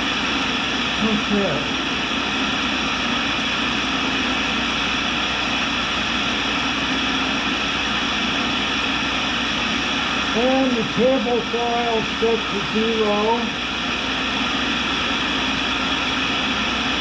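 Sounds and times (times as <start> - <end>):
grinder motor hum and hiss: 0.0 - 17.0.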